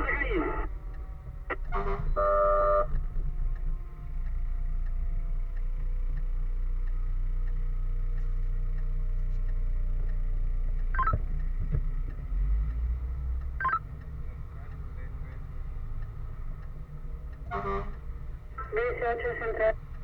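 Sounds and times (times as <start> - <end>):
fire engine engine and road rumble: 0.0 - 20.0.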